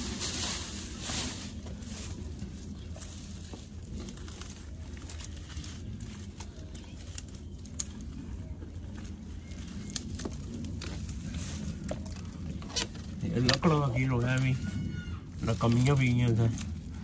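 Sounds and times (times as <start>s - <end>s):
leaves and twigs rustling: 0.0s - 17.0s
steady low rumble: 0.0s - 17.0s.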